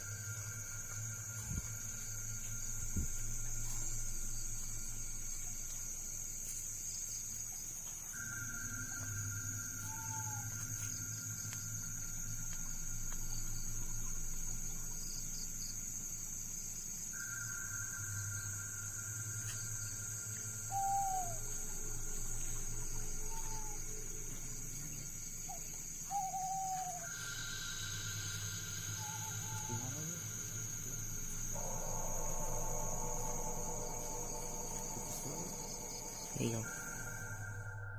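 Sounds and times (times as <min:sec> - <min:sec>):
insects droning high-pitched: 0:00.0 - 0:37.9
second insect tone: 0:00.0 - 0:37.9
steady low hum: 0:00.0 - 0:37.9.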